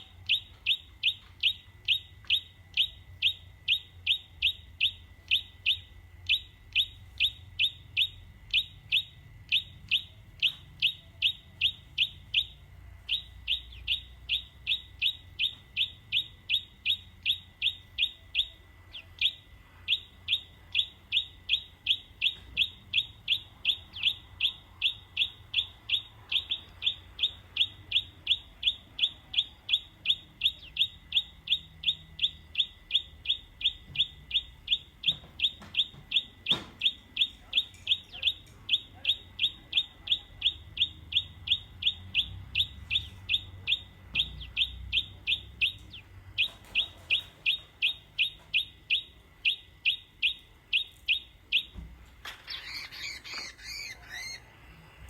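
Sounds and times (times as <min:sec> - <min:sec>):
bird chirping rapidly: 0:00.0 - 0:54.6.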